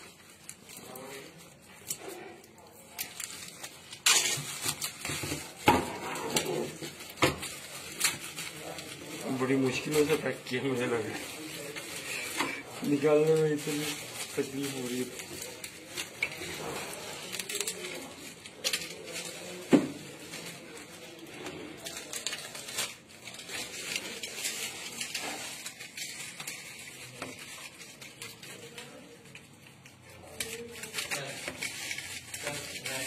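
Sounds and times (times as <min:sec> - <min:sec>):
plastic packing rustling: 0:00.0 - 0:33.0.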